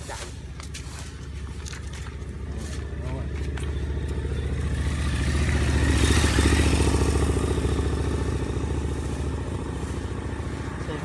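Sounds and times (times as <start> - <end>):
motorcycle passing: 0.1 - 11.0.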